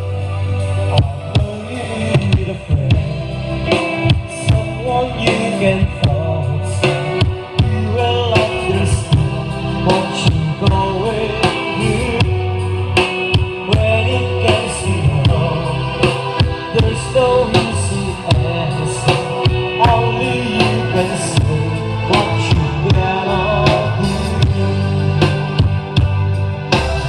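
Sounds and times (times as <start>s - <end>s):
song with singing drums and bass: 0.0s - 27.0s.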